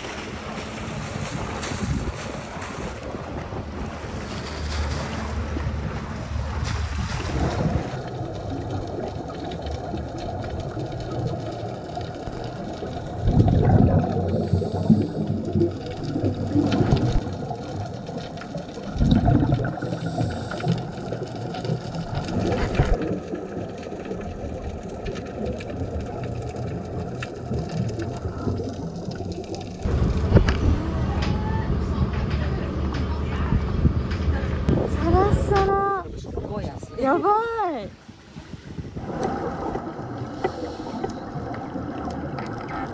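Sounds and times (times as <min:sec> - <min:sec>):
regulator exhaust bubbles: 0:00.0 - 0:37.2, 0:38.2 - 0:42.9
underwater low rumble: 0:00.0 - 0:42.9.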